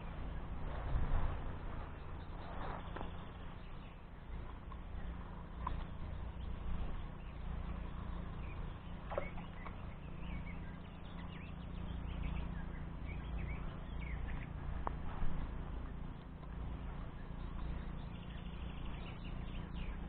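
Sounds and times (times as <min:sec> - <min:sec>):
small birds chirping faintly: 0:00.0 - 0:20.0
wind rumble on microphone: 0:00.0 - 0:20.0.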